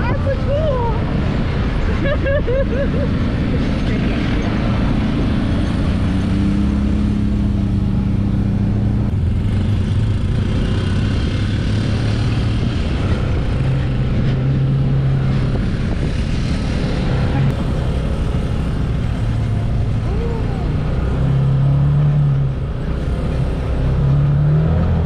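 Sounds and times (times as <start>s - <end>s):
rough road noise: 0.0s - 25.0s
utility vehicle engine running: 0.0s - 25.0s
wind: 0.0s - 25.0s.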